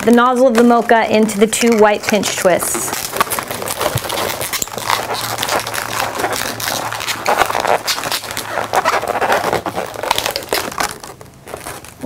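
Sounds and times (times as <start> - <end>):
balloons squeaking and rubbing: 1.2 - 12.0.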